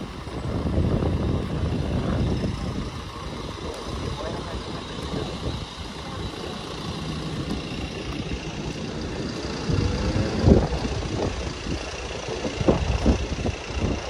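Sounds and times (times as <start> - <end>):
engine rising in pitch: 0.0 - 14.0
traffic rumble: 0.0 - 14.0.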